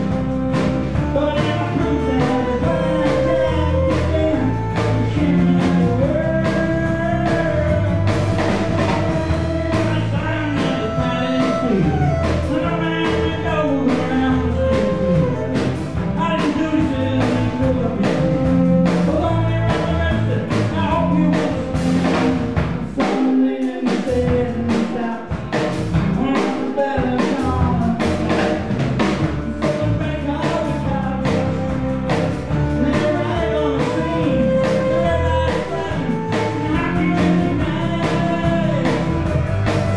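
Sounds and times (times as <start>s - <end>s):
bass: 0.0s - 39.9s
drum kit: 0.0s - 39.9s.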